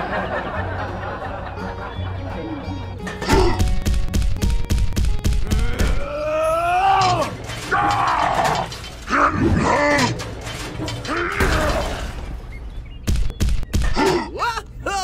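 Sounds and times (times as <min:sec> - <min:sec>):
low pulsing music: 0:00.0 - 0:14.0.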